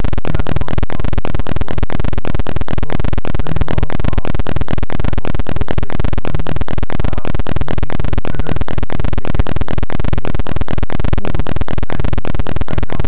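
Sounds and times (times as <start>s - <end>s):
harsh digital noise: 0.0s - 13.0s.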